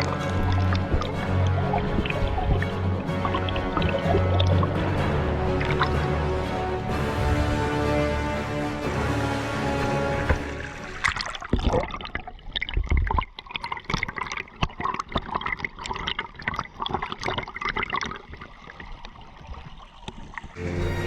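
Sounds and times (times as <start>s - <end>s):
water gurgling and trickling: 0.0s - 21.0s.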